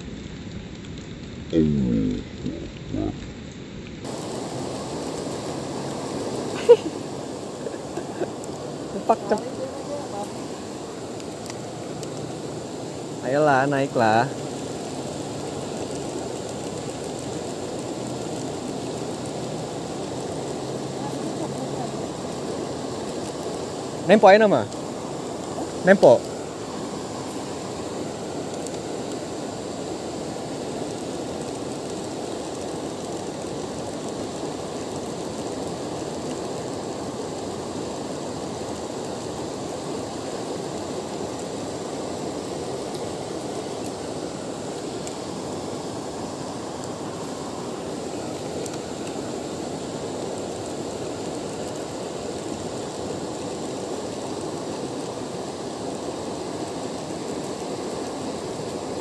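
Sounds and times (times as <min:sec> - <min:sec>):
river water rushing: 0:04.0 - 0:59.0.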